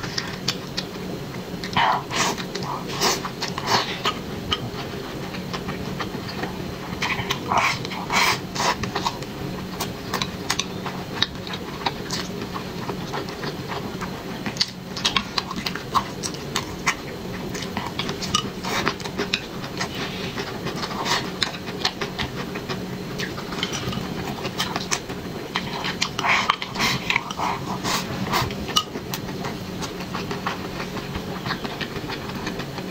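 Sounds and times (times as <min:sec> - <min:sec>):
chewing and mouth noises: 0:00.0 - 0:32.9
steady low hum: 0:00.0 - 0:32.9.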